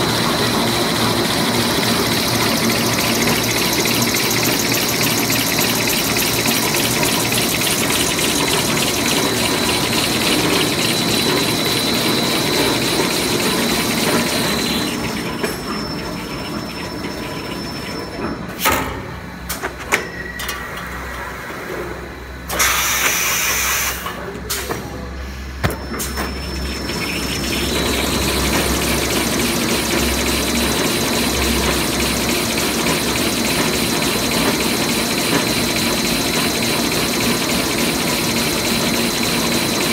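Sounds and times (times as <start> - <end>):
machine high whine: 0.0 - 18.6, 25.6 - 39.9
machine mechanical clatter: 0.4 - 21.4, 25.6 - 39.9.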